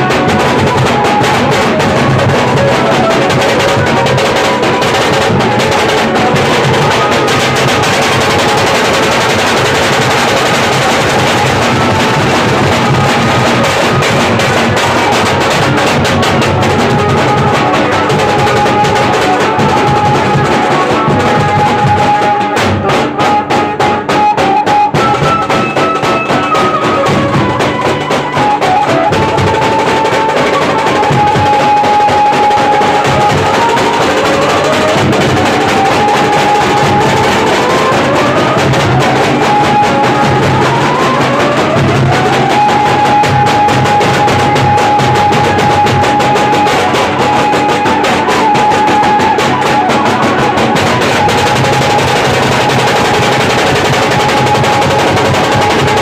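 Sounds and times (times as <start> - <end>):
dhol and tasha drums beating: 0.0 - 56.0.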